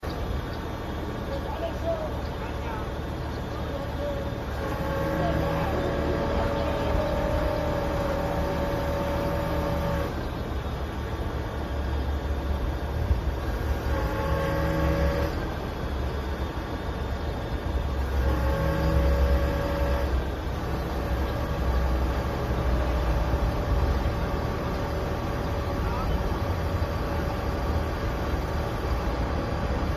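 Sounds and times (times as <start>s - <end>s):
crane engine rumble: 0.0s - 29.9s
held whine: 0.0s - 29.9s.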